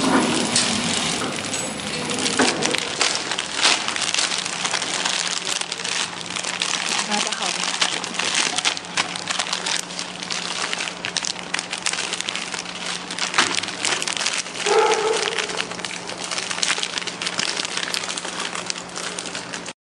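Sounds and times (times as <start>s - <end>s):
packaging machine hum: 0.0s - 19.8s
plastic film crinkling: 0.0s - 19.8s.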